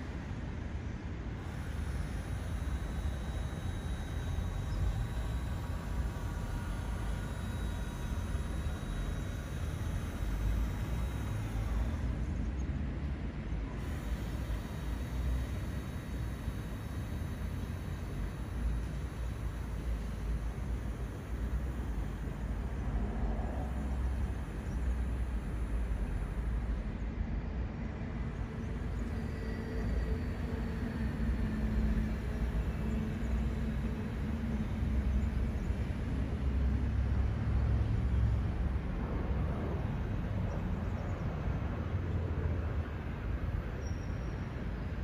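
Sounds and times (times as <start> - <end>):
faint humming tone: 0.0 - 45.0.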